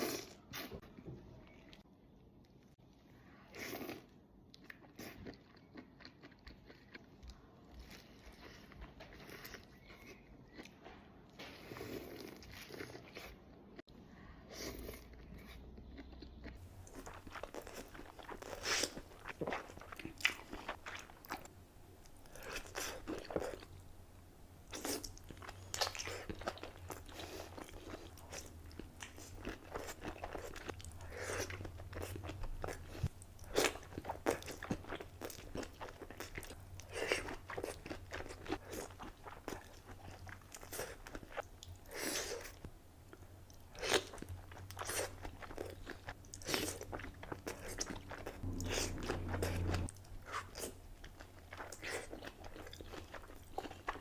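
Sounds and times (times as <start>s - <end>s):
person chewing crunchy food: 3.5s - 13.9s, 14.5s - 23.9s, 24.6s - 54.0s.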